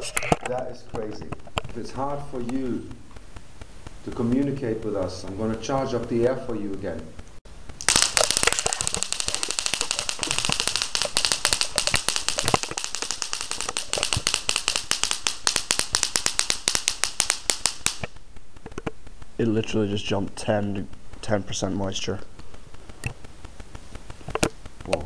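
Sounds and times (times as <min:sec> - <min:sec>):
electric sparks crackling: 0:00.0 - 0:25.0.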